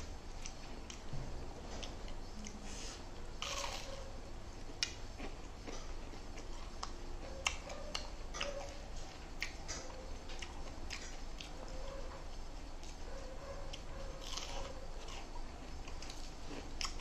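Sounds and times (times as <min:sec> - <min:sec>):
person chewing: 0:00.0 - 0:01.1, 0:01.8 - 0:11.7, 0:13.7 - 0:17.0.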